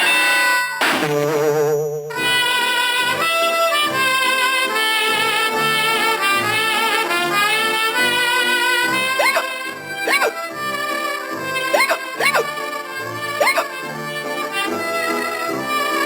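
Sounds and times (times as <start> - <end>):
orchestral cartoon music: 2.1 - 16.0
brass playing lively melody: 2.2 - 16.0.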